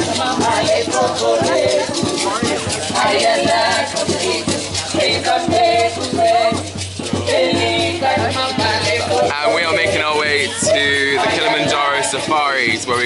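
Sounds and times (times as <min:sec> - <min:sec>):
percussion beat: 0:00.0 - 0:13.0.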